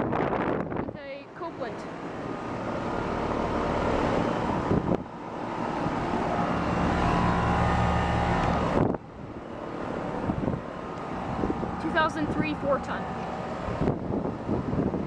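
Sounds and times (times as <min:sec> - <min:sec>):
air conditioner fan rush: 0:00.0 - 0:15.0
compressor hum: 0:00.1 - 0:15.0.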